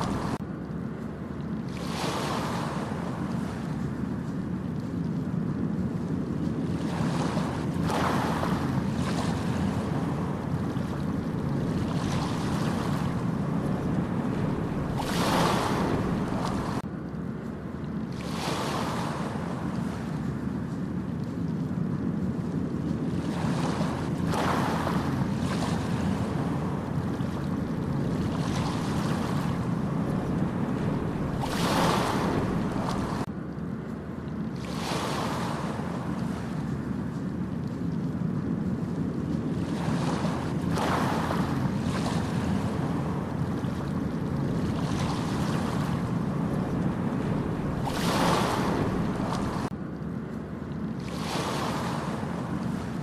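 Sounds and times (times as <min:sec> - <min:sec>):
ocean waves breaking on beach: 0:00.0 - 0:00.4, 0:01.5 - 0:16.9, 0:18.0 - 0:33.3, 0:34.5 - 0:49.8, 0:50.8 - 0:53.0.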